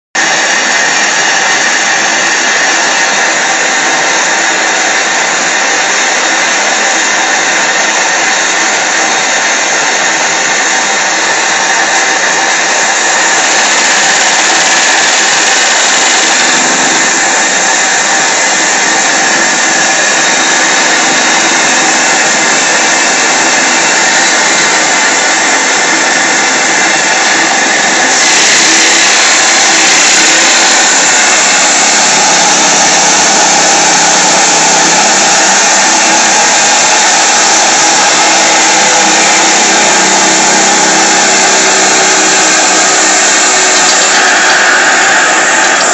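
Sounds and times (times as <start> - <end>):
model steam engine buzzing whir: 0.2 - 45.9.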